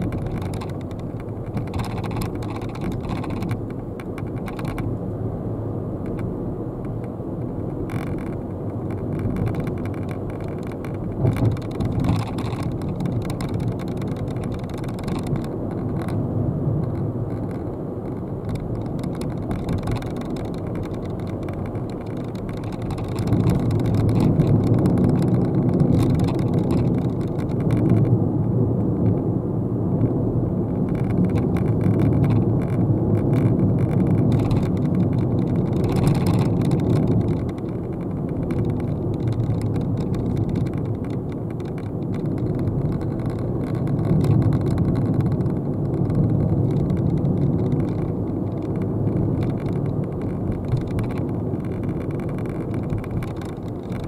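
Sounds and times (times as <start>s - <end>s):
car engine hum: 0.0s - 54.0s
tyre and road noise: 0.0s - 54.0s.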